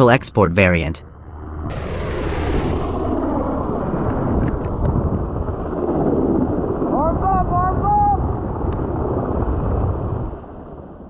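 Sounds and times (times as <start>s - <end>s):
helicopter rotor rumble: 0.8s - 11.0s
wind buffeting microphone: 1.0s - 11.0s.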